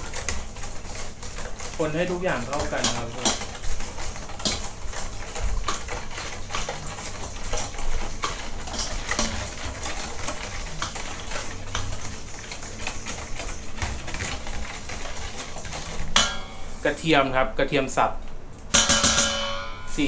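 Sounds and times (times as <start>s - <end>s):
metal spoon scraping steel bowl: 0.0s - 16.8s.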